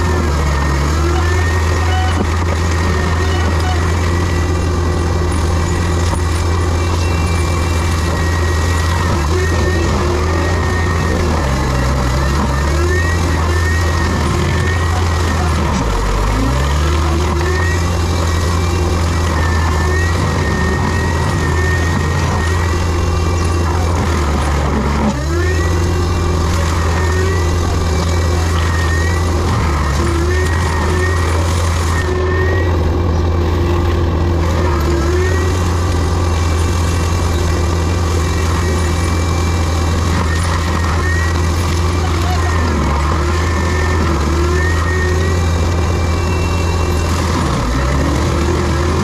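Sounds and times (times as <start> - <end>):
diesel engine under load: 0.0 - 49.0
hydraulic whine: 0.0 - 49.0.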